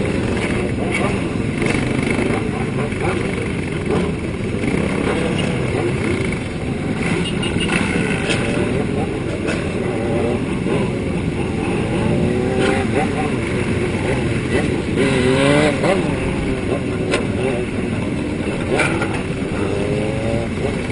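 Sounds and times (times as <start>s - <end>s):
motorcycle engines running: 0.0s - 20.9s.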